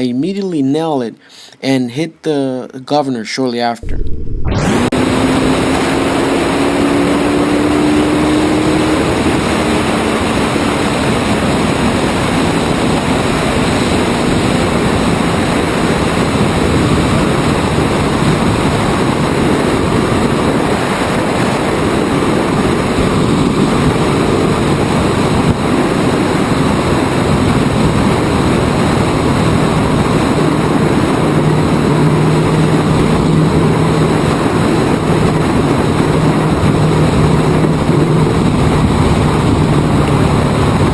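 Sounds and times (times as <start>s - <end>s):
loud rush of noise: 3.8s - 11.8s, 12.5s - 40.9s
race car engine running flat out: 3.8s - 40.9s
lower steady engine note: 4.7s - 40.9s.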